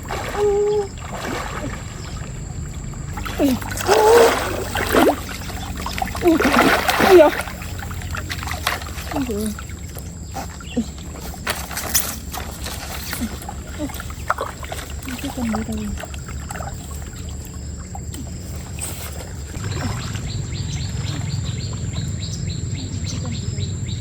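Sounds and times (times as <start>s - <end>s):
splashes and knocks: 0.0s - 22.2s
stream water running: 0.0s - 24.0s.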